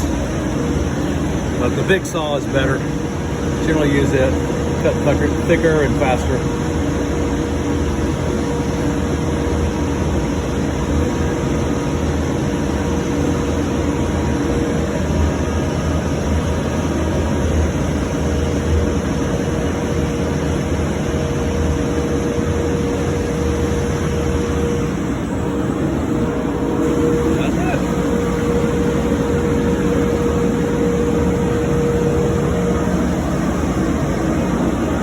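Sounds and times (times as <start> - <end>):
machine droning: 0.0 - 35.0.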